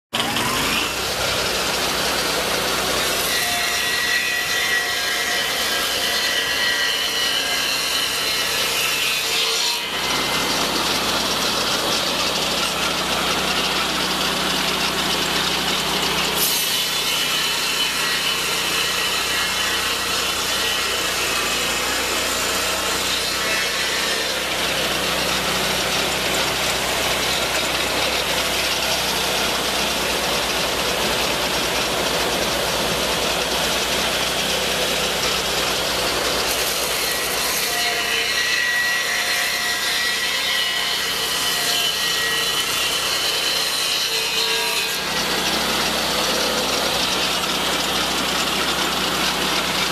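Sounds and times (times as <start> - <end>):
circular blade sawing wood: 0.1 - 49.9
sawmill engine running under load: 0.2 - 49.9.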